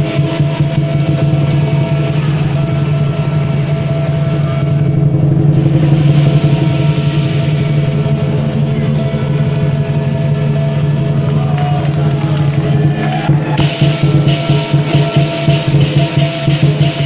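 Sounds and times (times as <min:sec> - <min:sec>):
big drum fast roll: 0:00.0 - 0:17.0
cymbals clashing: 0:00.0 - 0:17.0.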